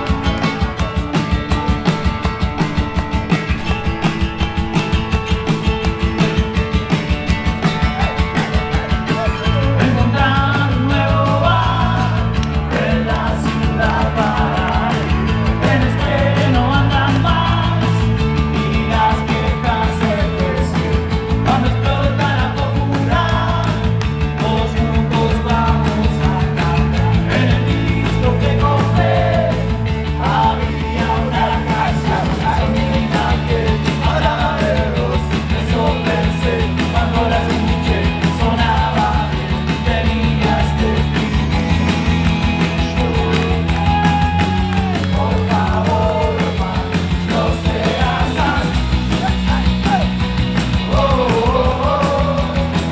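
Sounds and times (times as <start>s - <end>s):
acoustic guitar: 0.0s - 52.9s
bass: 0.0s - 52.9s
drums: 0.0s - 52.9s
electric guitar: 0.0s - 52.9s
man singing: 6.1s - 52.9s.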